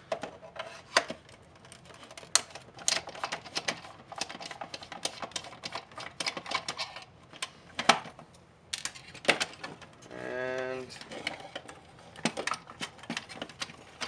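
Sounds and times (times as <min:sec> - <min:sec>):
plastic parts clicking and tapping: 0:00.1 - 0:10.0, 0:11.0 - 0:14.0.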